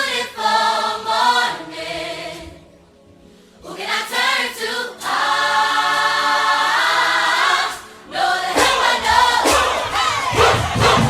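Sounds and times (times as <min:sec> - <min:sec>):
choral singing: 0:00.0 - 0:11.0.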